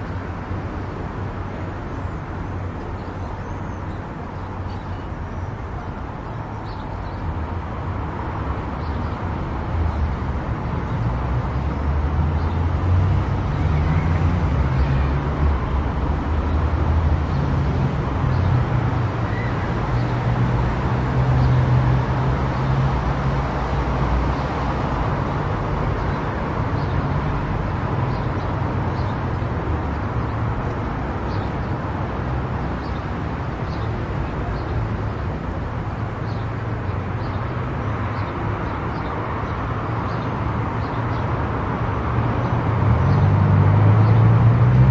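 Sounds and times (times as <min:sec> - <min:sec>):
tyre and road noise: 0:00.0 - 0:44.9.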